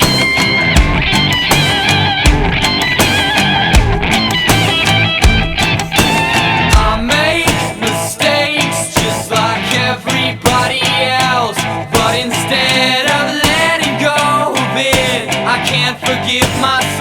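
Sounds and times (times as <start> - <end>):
electric guitar bent notes: 0.0 - 17.0
hard-hitting drum beat: 0.0 - 17.0.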